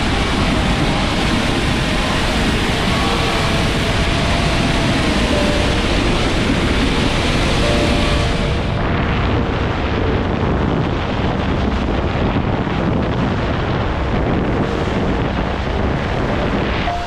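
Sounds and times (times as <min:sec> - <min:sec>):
rushing water: 0:00.0 - 0:17.0
wind: 0:00.0 - 0:17.0.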